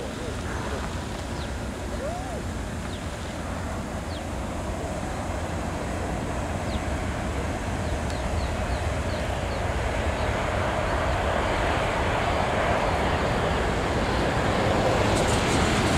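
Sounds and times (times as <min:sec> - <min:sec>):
jet engines rumbling: 0:00.0 - 0:15.9.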